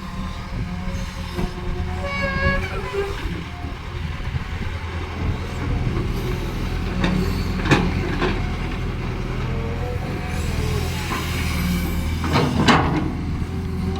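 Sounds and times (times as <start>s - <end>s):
excavator diesel engine running: 0.0s - 13.9s.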